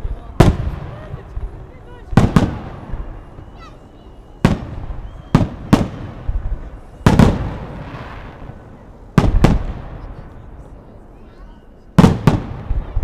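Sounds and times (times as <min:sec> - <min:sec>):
fireworks bangs with rolling echo: 0:00.0 - 0:13.0.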